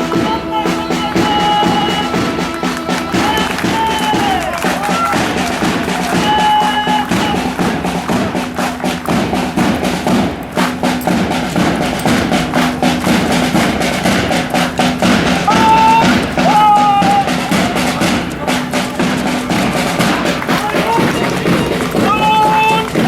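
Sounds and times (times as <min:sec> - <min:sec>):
drums beating: 0:00.0 - 0:23.0
military band playing a march: 0:00.0 - 0:23.0.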